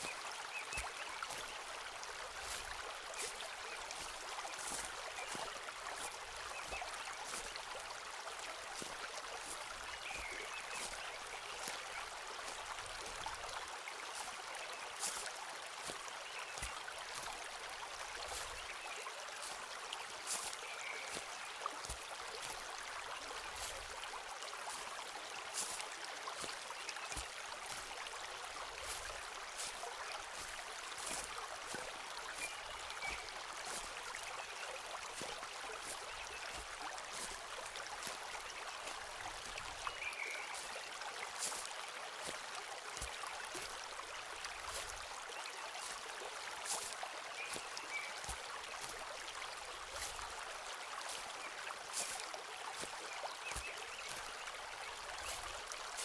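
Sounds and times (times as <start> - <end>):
footsteps on leaves and twigs: 0.0 - 56.0
stream rushing: 0.0 - 56.0.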